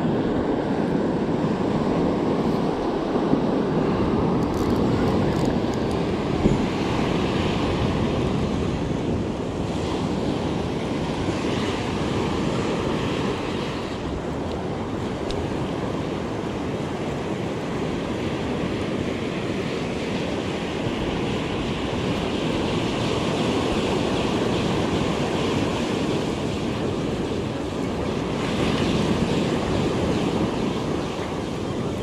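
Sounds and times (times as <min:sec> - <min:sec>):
ocean surf breaking on sand: 0:00.0 - 0:32.0.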